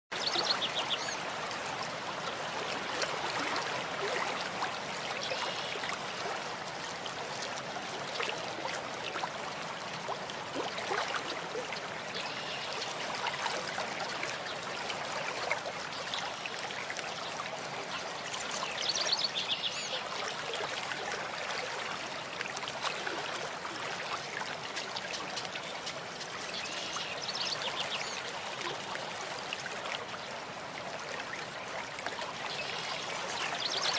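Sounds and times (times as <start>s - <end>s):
stream running: 0.1s - 33.9s.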